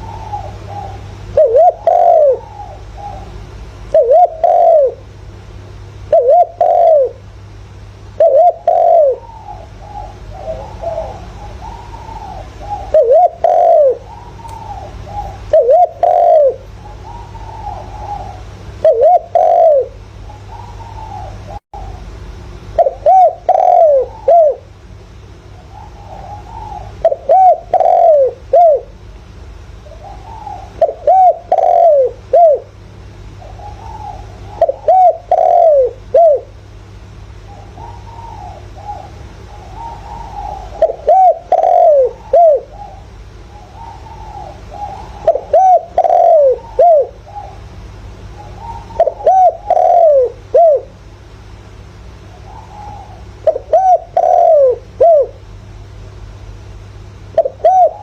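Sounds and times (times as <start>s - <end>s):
dove cooing: 0.0s - 29.1s, 29.8s - 55.6s, 56.8s - 58.0s
faint distant dove cooing: 0.0s - 58.0s.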